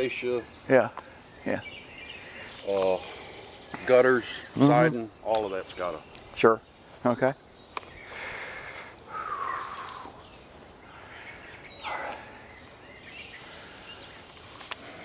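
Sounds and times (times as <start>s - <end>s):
faint bird calls: 0.0s - 4.6s, 5.5s - 15.0s
steady background hiss: 0.0s - 15.0s.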